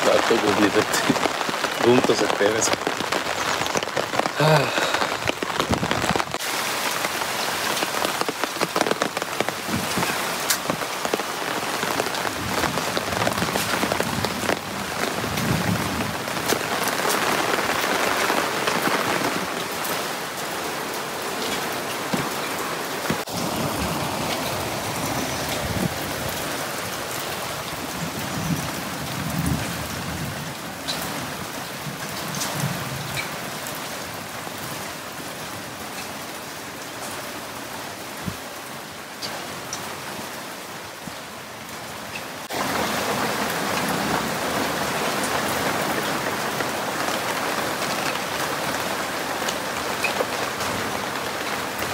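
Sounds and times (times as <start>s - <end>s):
raindrops tapping on an umbrella: 0.0s - 37.3s, 41.9s - 51.9s
heavy rain: 0.0s - 51.9s.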